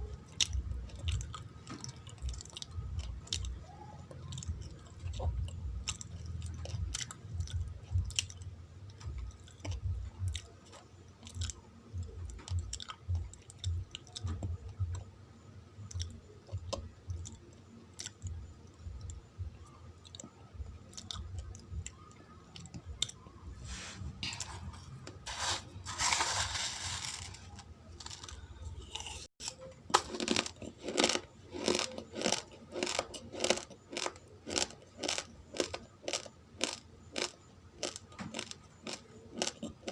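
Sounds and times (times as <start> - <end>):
chewing crunchy rice grains: 0.0 - 15.1, 20.0 - 39.9.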